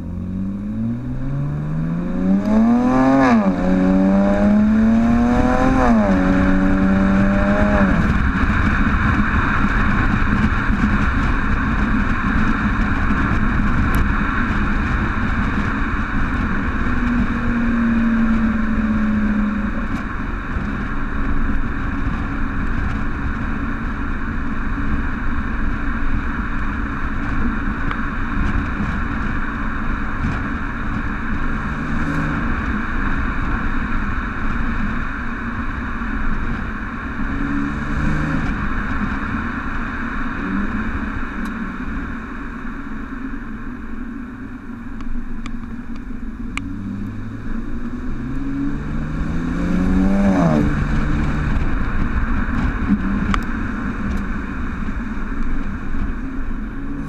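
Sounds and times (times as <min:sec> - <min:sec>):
car exhaust note: 0:00.0 - 0:57.0
road and wind noise: 0:00.0 - 0:57.0.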